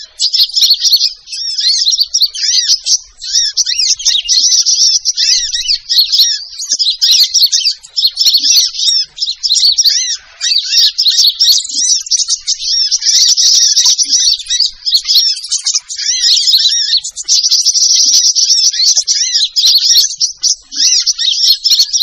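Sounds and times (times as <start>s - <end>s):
rapid high-pitched bird chirps: 0.0s - 22.0s.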